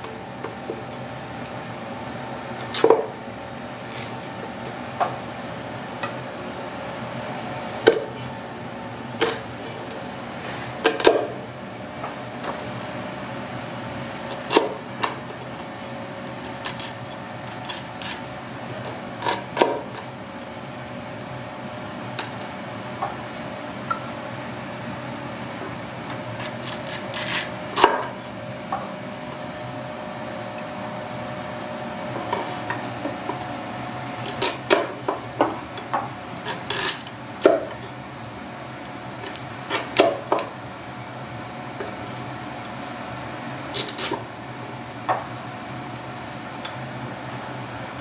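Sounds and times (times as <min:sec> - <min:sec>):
steady background hum: 0:00.0 - 0:48.0.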